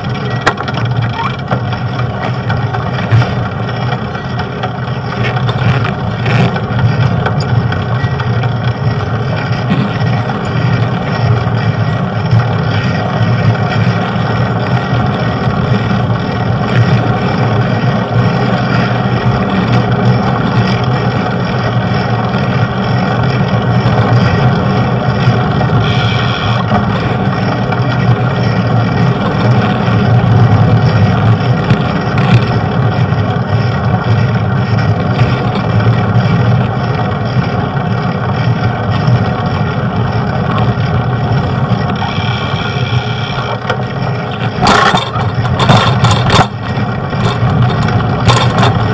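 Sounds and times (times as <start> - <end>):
road rumble: 0.0 - 48.9.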